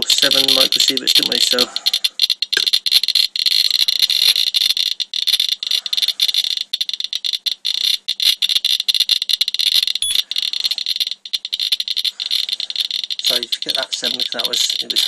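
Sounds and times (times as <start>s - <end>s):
geiger counter chirping: 0.0s - 15.0s.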